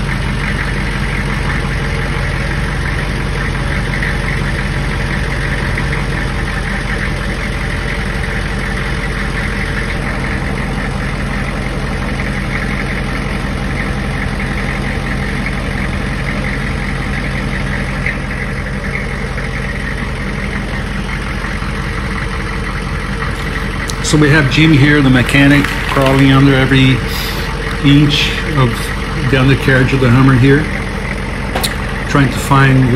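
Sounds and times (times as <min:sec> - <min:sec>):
engine idling: 0:00.0 - 0:32.9.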